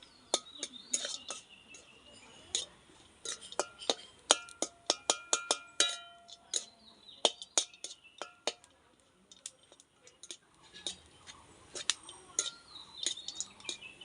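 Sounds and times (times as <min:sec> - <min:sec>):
metal spoon clinking on a pan: 0:00.0 - 0:14.0.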